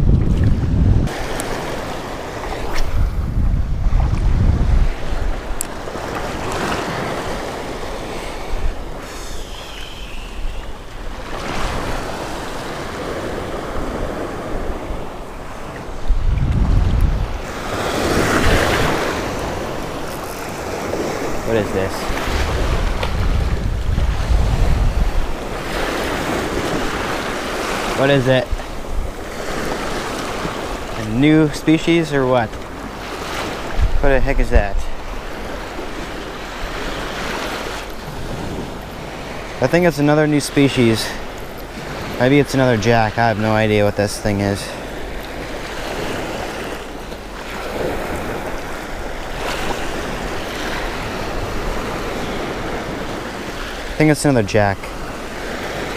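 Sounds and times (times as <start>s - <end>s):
wind buffeting the microphone: 0.0s - 39.6s, 40.6s - 55.9s
small surf waves washing: 0.0s - 55.9s.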